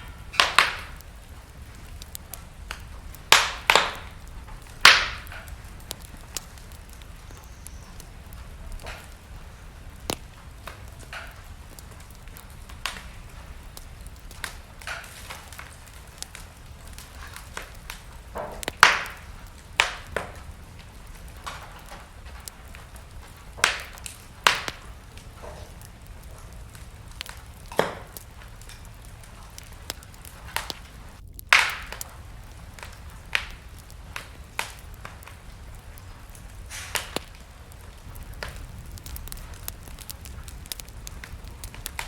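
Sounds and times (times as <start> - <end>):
burning logs crackling and popping: 0.0 - 42.0
low rumble of flames: 0.0 - 42.0.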